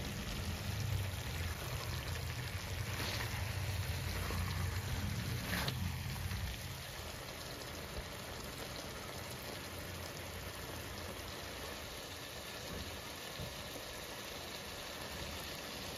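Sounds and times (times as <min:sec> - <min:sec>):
food sizzling in a pan: 0:00.0 - 0:15.9.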